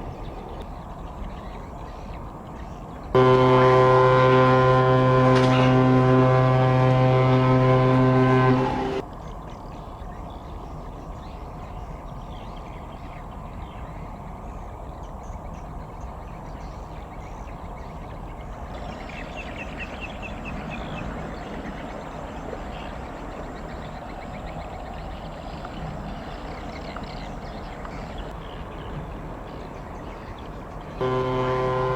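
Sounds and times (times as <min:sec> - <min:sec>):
large ship rumble and wash: 0:00.0 - 0:31.9.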